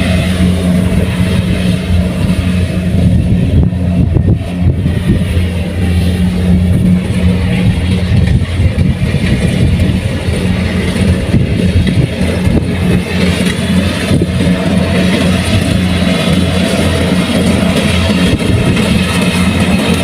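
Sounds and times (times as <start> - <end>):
diesel engine running: 0.0 - 20.0
threshing machinery running: 0.0 - 20.0.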